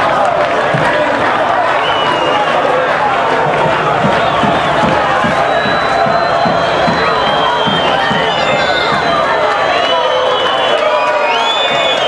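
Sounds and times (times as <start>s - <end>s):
crowd cheering and shouting: 0.0s - 12.0s.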